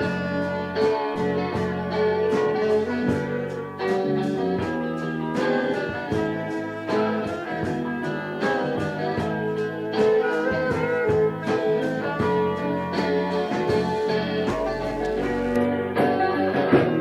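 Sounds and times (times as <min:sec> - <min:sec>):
band playing guitar-led instrumental: 0:00.0 - 0:17.0.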